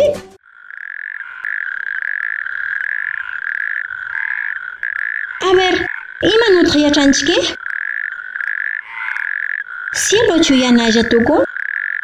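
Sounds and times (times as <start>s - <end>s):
frog croaking trill: 0.2s - 12.0s.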